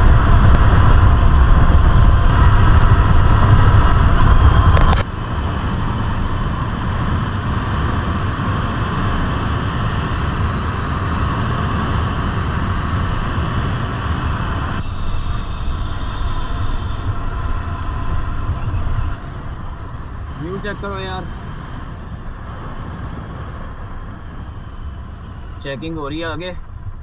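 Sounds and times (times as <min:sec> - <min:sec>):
motorcycle engine cruising: 0:00.0 - 0:27.0
wind noise: 0:00.0 - 0:27.0.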